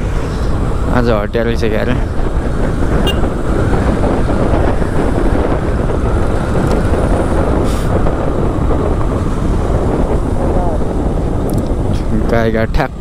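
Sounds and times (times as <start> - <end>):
motorcycle engine rumble: 0.0 - 13.0
road noise: 0.0 - 13.0
wind buffeting microphone: 0.0 - 13.0.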